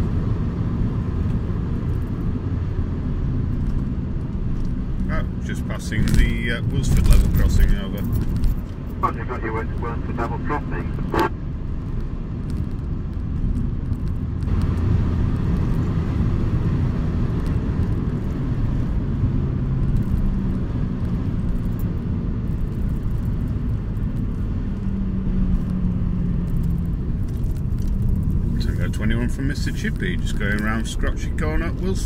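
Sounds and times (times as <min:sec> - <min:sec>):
engine hum: 0:00.0 - 0:32.0.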